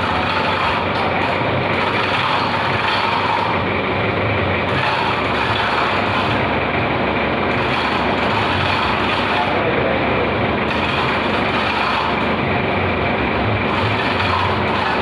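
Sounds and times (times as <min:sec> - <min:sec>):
heavy machinery running: 0:00.0 - 0:15.0.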